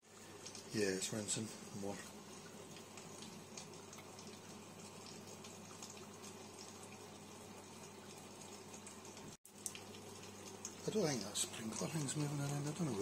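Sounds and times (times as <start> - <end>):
low pump hum: 0.0 - 13.0
water spraying against dishes: 0.0 - 13.0.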